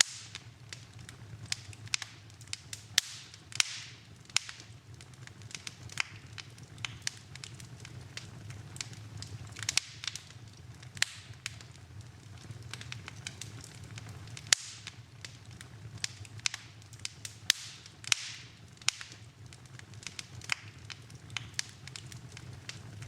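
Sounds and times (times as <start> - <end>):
low steady rumble: 0.0 - 23.0
wood fire crackling and popping: 0.0 - 23.0.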